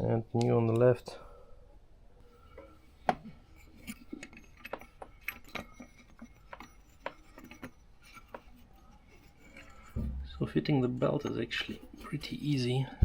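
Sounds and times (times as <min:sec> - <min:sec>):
small parts and tools clinking: 0:02.5 - 0:12.9.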